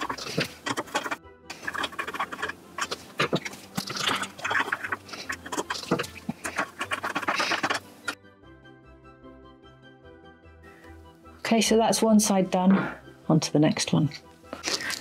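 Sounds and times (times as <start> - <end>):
faint music: 0.0 - 8.3, 10.6 - 15.0.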